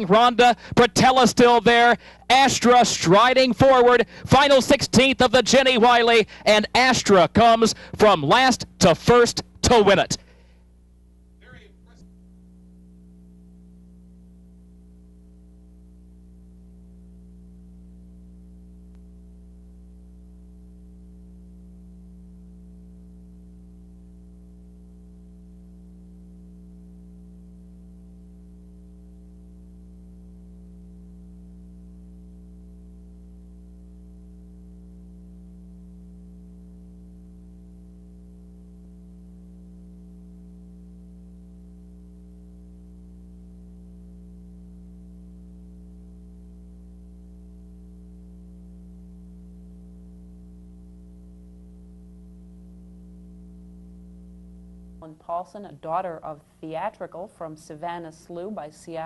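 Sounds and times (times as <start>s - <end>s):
electrical mains hum: 0.0s - 59.0s
faint tape hiss: 0.0s - 59.0s.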